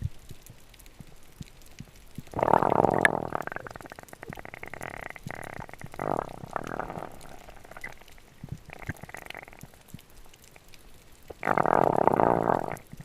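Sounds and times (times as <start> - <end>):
water bubbling and gurgling: 2.0 - 13.0.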